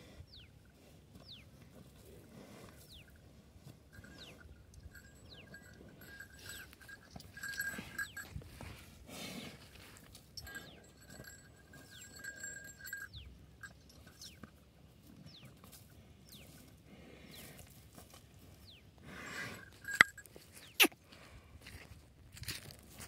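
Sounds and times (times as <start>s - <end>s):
hooves scraping dirt: 0.6s - 23.0s.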